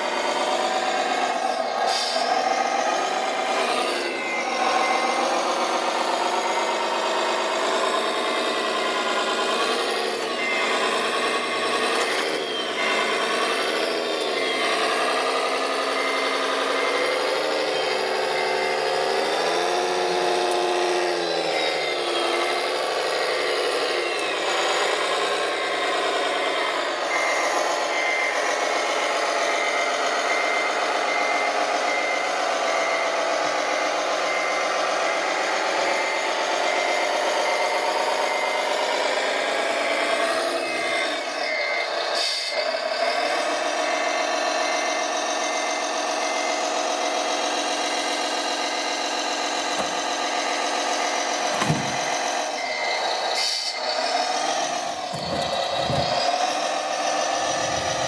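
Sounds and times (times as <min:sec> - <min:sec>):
electronic engine drone: 0:00.0 - 0:58.0
reversing beeper beeping: 0:00.0 - 0:58.0.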